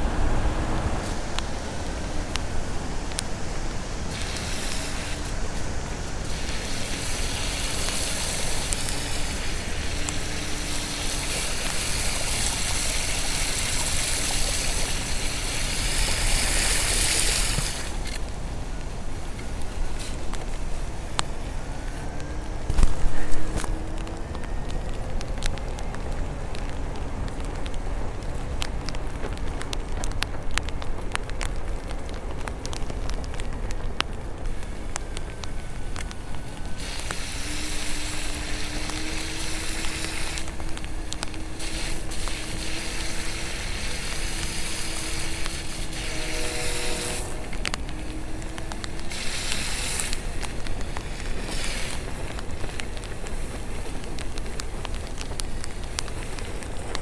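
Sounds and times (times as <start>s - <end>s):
low rumble: 0.0s - 57.0s
tyre hissing over wet pavement: 0.0s - 57.0s.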